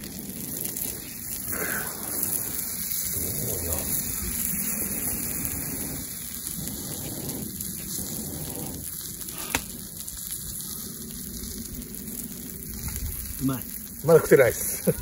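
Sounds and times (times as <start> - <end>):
steak sizzling on a griddle: 0.0 - 15.0.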